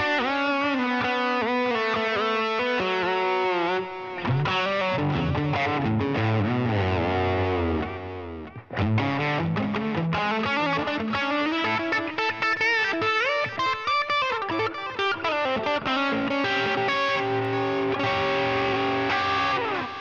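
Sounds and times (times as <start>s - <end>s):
electric guitar lead solo: 0.0s - 20.0s.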